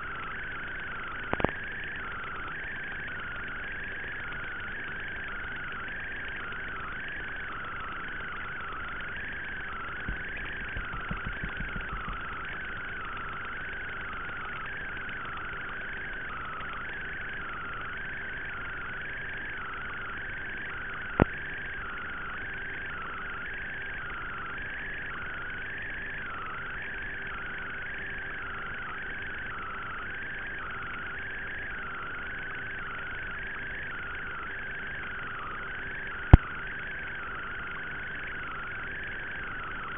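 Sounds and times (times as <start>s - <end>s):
electronic hiss with faint hum: 0.0s - 39.9s.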